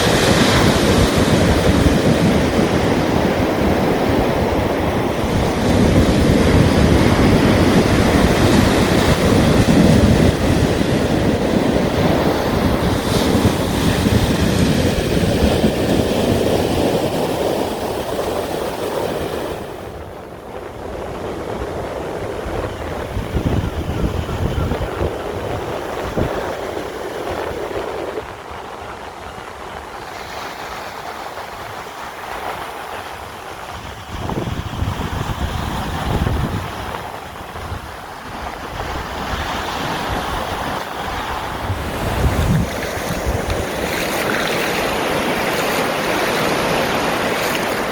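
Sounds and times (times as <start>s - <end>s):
sea waves washing onto shore: 0.0s - 47.9s.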